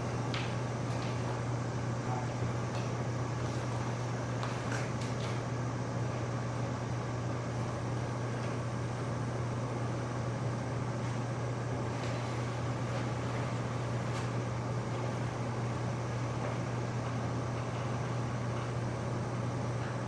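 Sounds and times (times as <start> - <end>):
ventilation unit hum and hiss: 0.0 - 20.0.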